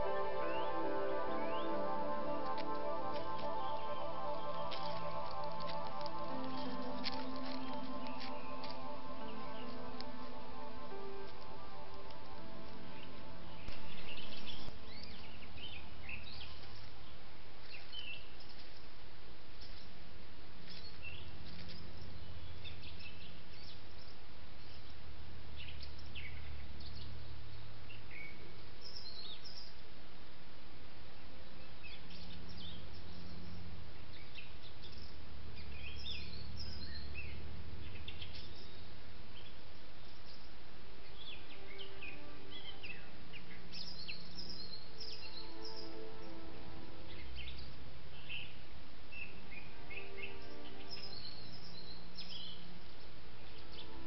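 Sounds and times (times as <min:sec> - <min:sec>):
small birds chirping: 0:00.0 - 0:20.0, 0:20.6 - 0:25.0, 0:31.5 - 0:54.0
background hiss: 0:00.0 - 0:54.0.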